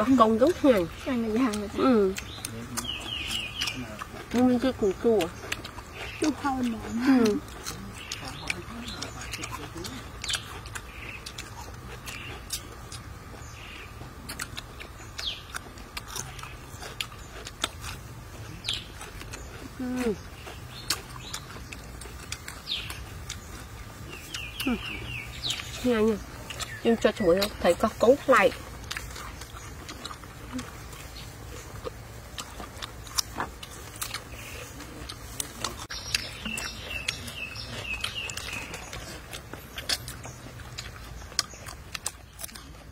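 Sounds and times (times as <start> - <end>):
bird chirping: 0.0 - 42.9
wet chewing and mouth smacks: 0.0 - 42.9
crunching bites of cucumber: 7.2 - 27.7, 28.5 - 42.9.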